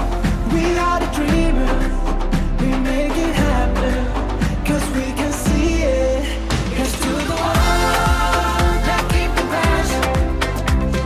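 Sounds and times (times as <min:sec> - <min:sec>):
background music with singing: 0:00.0 - 0:11.0
steady bass: 0:00.0 - 0:11.0.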